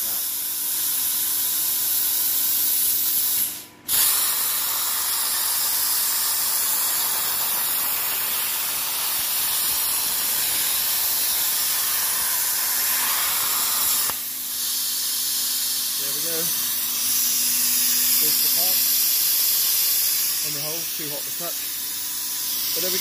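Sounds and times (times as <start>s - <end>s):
plasma cutter hissing: 0.0s - 23.0s.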